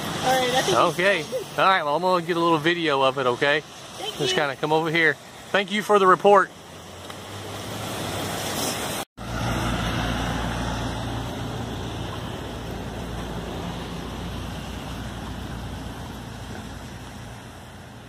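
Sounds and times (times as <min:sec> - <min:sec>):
fast water rushing: 0:00.0 - 0:18.0.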